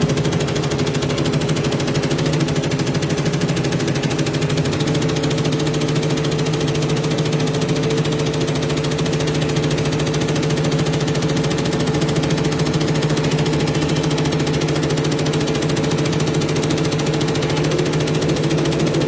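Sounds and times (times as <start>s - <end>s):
embroidery machine needle stitching: 0.0s - 19.0s
motor hum: 0.0s - 19.0s.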